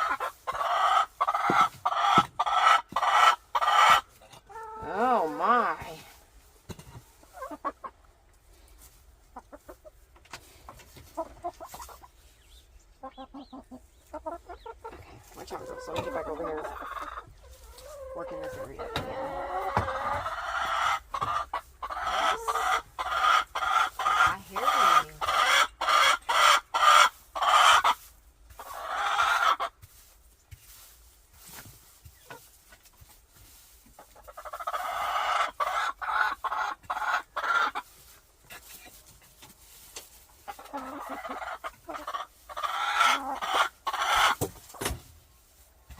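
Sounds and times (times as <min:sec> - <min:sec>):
hens clucking: 0:00.0 - 0:45.9.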